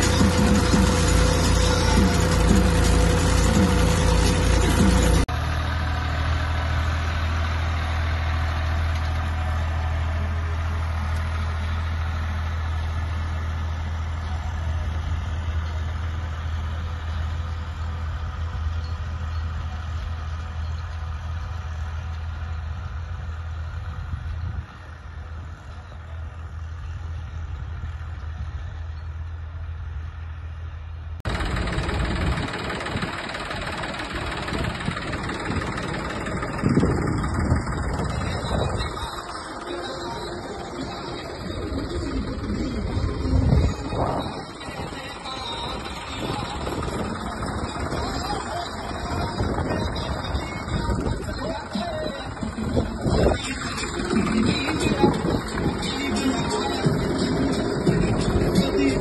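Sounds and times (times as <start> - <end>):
closer engine: 0.0 - 59.0
tractor engine droning: 0.0 - 59.0.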